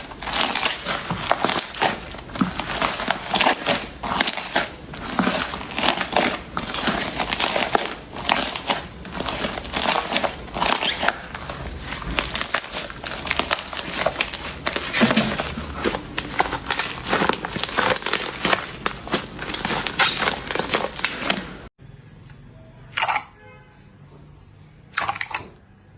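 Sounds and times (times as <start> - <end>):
slime squished by hand: 0.0 - 21.7.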